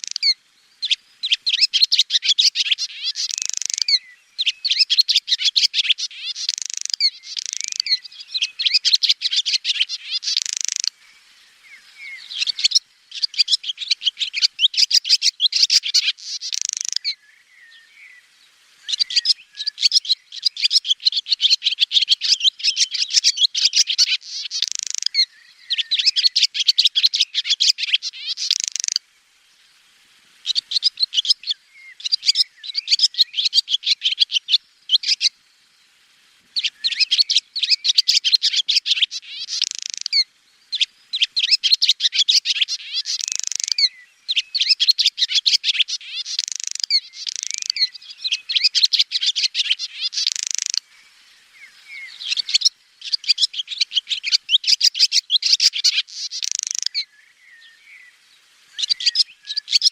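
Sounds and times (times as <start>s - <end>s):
swallow twittering: 0.0s - 18.2s, 18.8s - 29.0s, 30.4s - 35.4s, 36.6s - 59.9s.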